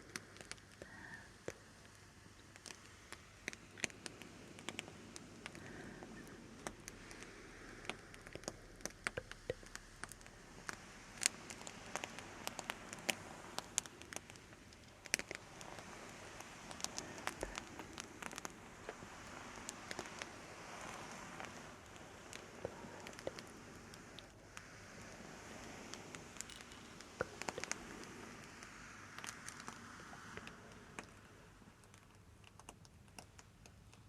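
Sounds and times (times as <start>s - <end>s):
crackling clicks and pops: 0.0s - 34.0s
faint hiss: 0.0s - 34.0s.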